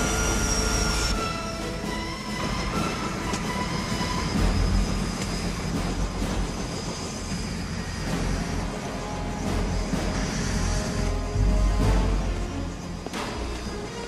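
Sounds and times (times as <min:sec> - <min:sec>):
helicopter engine and rotors: 0:00.0 - 0:14.0.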